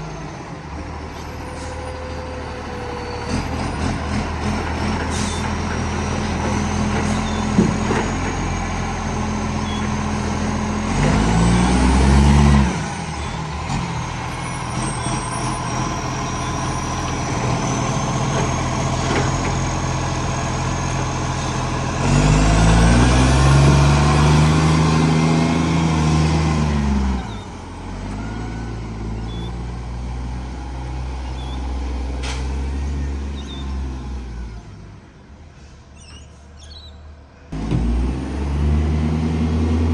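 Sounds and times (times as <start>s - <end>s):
diesel engine with exhaust leak: 0.0s - 39.9s.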